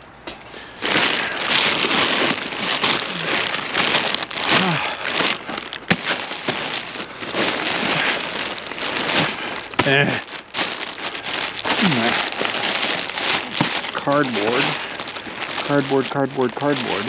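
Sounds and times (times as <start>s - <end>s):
cardboard crackling and rustling: 0.6s - 17.0s.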